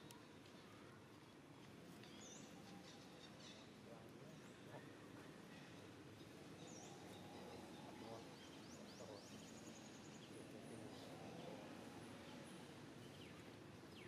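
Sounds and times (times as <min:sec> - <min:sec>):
faint outdoor background noise: 0:00.0 - 0:14.0.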